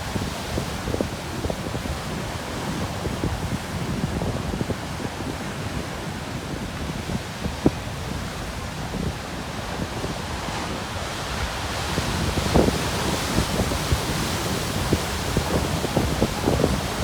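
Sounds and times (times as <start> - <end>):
ocean waves breaking on rocks: 0.0 - 17.0
wind buffeting microphone: 0.0 - 17.0.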